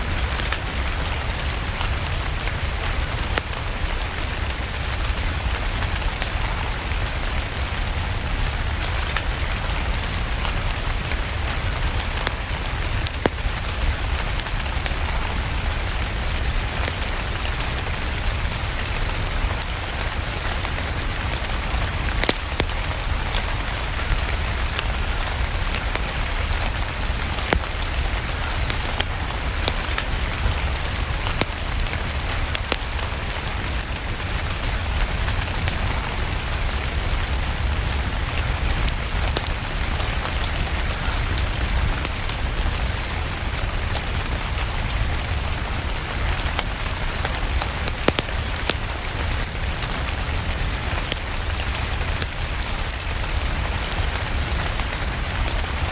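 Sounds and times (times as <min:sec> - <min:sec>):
steady rain hiss: 0:00.0 - 0:55.9
fire crackle ticks: 0:00.1 - 0:55.9.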